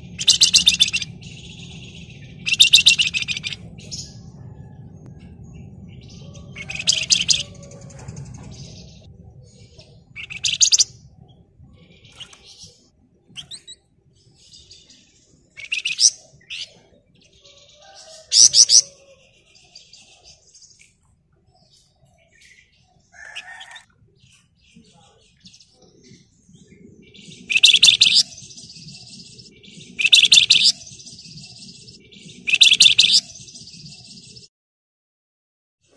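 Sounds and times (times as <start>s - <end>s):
soft bird twittering: 0.0s - 34.5s.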